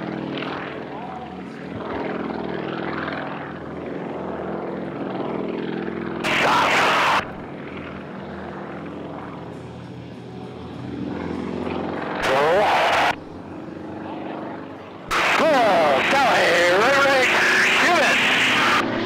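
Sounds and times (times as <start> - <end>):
radial engine and propeller: 0.0 - 19.0.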